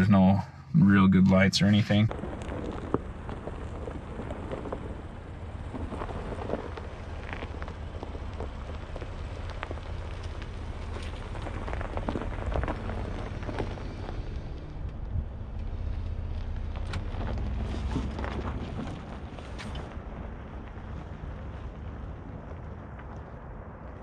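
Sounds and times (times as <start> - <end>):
low engine rumble: 0.0 - 24.0
tyres crackling over gravel: 1.9 - 24.0.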